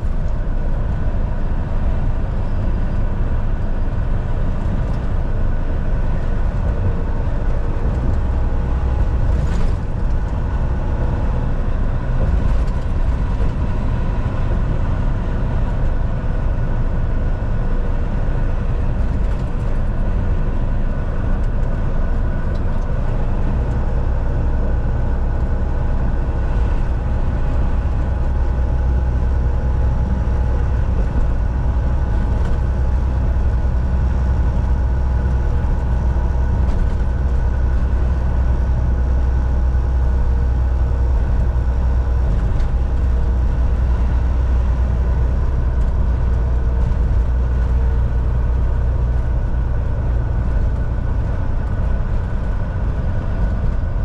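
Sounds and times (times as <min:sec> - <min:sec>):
diesel truck engine rumble: 0:00.0 - 0:54.0
tyre and road noise: 0:00.0 - 0:54.0.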